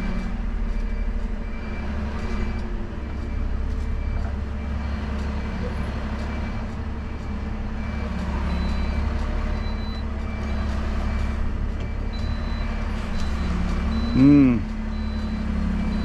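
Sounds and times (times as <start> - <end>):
diesel engine rumbling: 0.0 - 16.0
reversing alarm beeping: 0.1 - 16.0.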